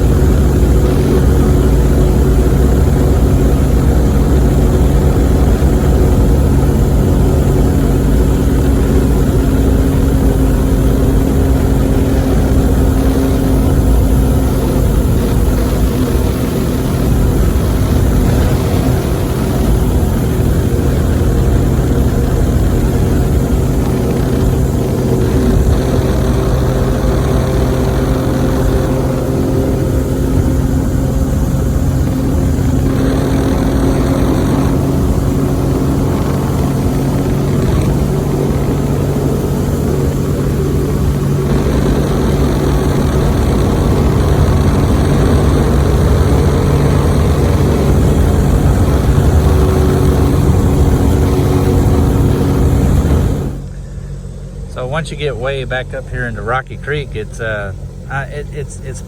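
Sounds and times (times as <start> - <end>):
boat motor drone: 0.0 - 59.0.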